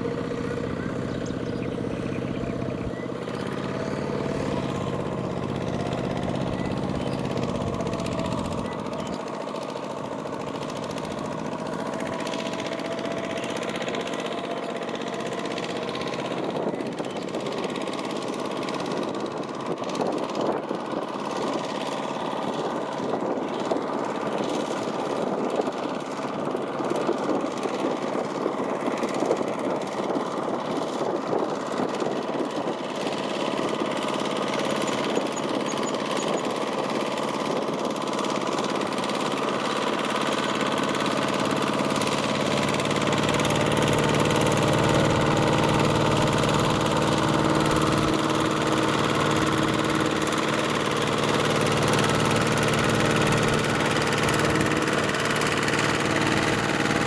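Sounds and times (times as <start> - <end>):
diesel engine knocking: 0.0 - 57.0.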